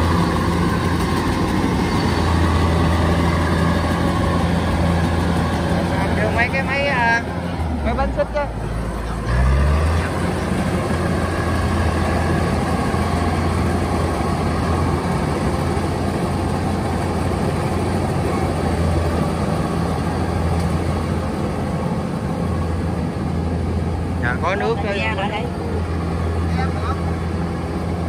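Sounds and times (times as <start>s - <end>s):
combine harvester diesel engine: 0.0s - 28.0s.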